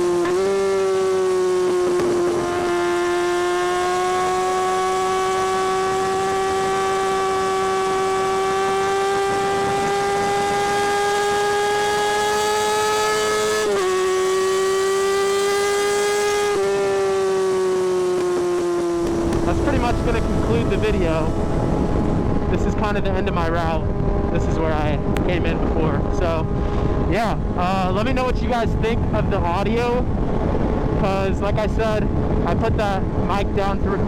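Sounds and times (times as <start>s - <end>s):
motorcycle exhaust accelerating: 0.0s - 34.0s.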